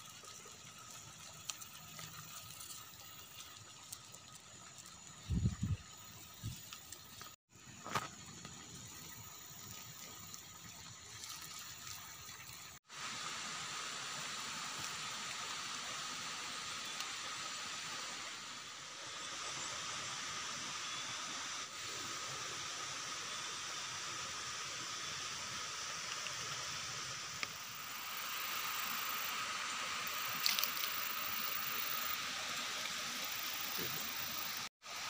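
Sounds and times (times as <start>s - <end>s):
steady outdoor hiss: 0.0s - 35.0s.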